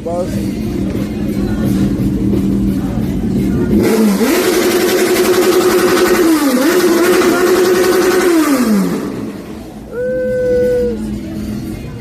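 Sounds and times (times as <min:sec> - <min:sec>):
car engine revving: 0:00.0 - 0:12.0
loud exhaust noise: 0:00.0 - 0:12.0.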